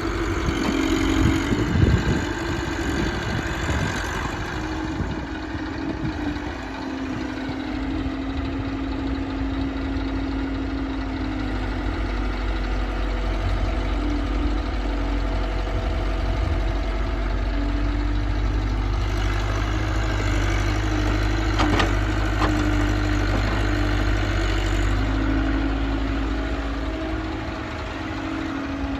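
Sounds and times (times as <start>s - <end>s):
diesel engines running: 0.0s - 28.9s.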